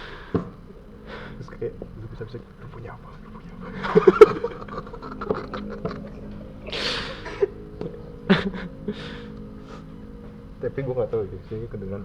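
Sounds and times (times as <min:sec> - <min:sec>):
breathy hissing: 0:00.0 - 0:10.6.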